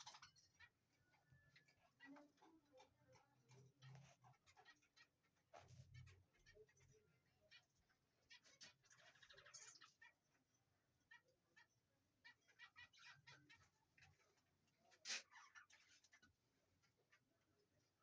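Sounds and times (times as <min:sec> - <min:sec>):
birds chirping faintly: 0:00.0 - 0:18.0.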